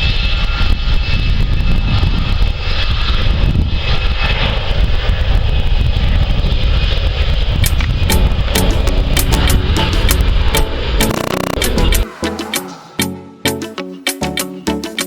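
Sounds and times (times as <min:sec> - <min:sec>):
jet airliner engine rumble: 0:00.0 - 0:13.0
high engine whine: 0:00.0 - 0:14.2.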